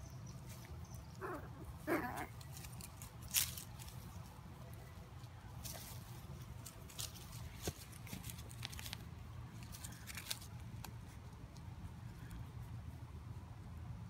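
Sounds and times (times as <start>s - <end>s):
leaves rustling and crackling: 0.0s - 13.0s.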